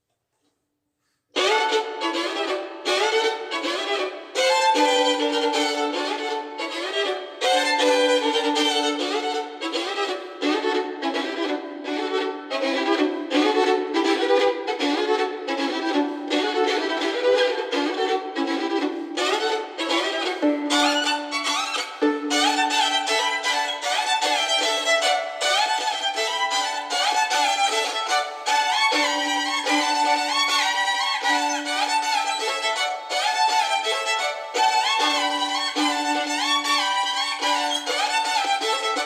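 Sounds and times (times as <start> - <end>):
violin melody: 1.3 - 39.0.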